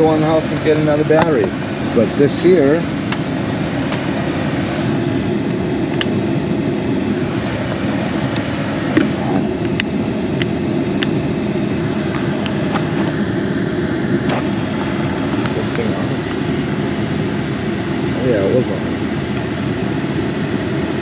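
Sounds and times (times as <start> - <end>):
low drone: 0.0 - 21.0.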